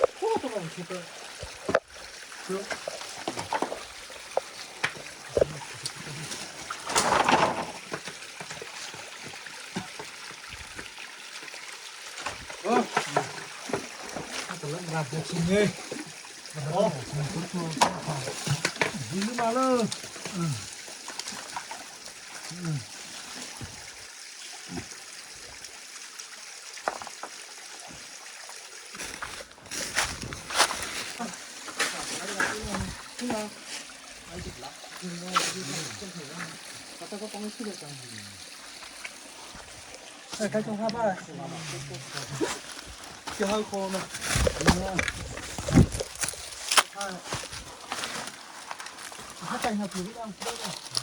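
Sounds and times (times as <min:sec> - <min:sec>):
small splashes and knocks: 0:00.0 - 0:25.7, 0:26.6 - 0:51.0
stream water running: 0:00.0 - 0:51.0.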